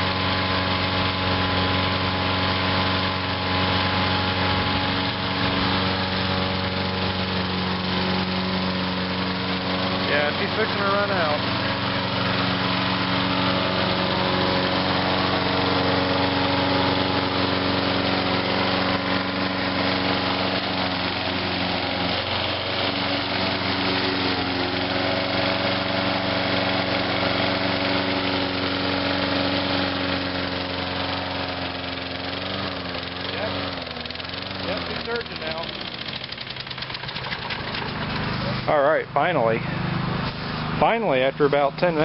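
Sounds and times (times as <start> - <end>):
lawn mower engine running: 0.0 - 42.0.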